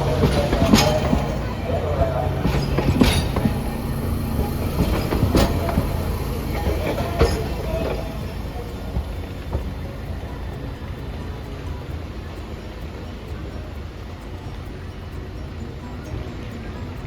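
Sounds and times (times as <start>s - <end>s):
streetcar rumble and hum: 0.0s - 17.0s
wheel clacks over rail joints: 0.0s - 17.0s.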